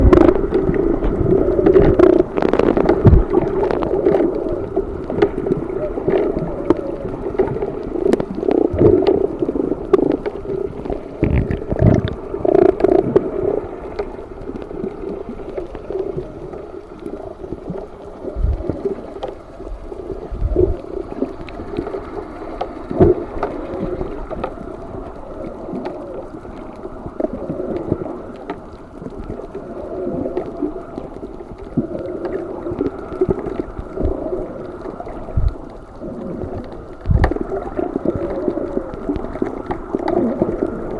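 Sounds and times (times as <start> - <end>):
underwater clicks and knocks: 0.0 - 16.2, 20.2 - 29.4, 30.3 - 40.9
underwater seawater rumble: 0.0 - 40.9.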